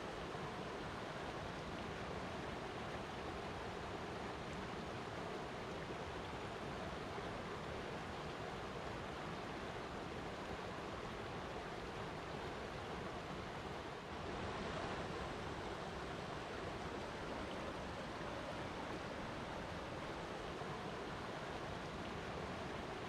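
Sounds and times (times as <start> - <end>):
water rushing: 0.1 - 23.0.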